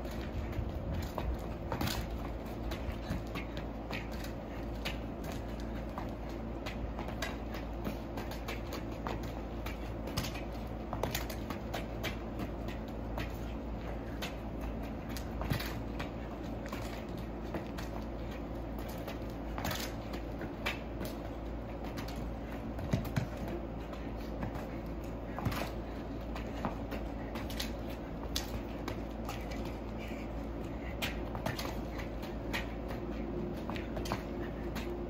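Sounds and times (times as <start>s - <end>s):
shoes scuffing pavement: 0.0s - 35.0s
shoes tapping a ball: 0.0s - 35.0s.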